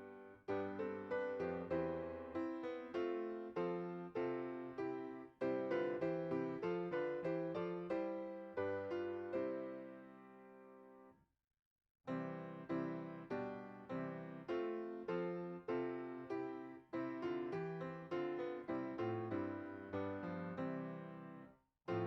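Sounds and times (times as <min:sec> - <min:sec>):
piano music: 0:00.0 - 0:11.0, 0:12.1 - 0:22.0.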